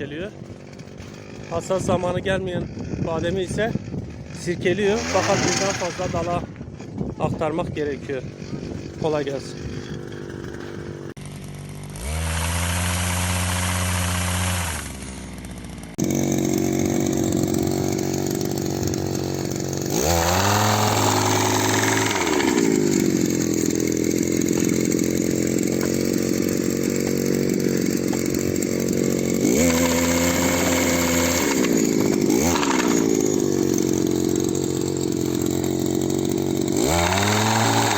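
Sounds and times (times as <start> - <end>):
small engine running at high speed: 0.0 - 37.9.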